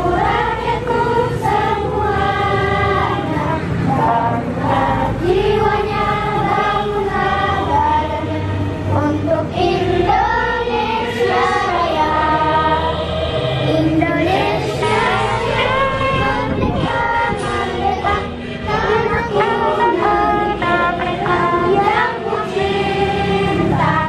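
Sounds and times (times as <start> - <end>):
girls singing in unison: 0.0 - 24.0.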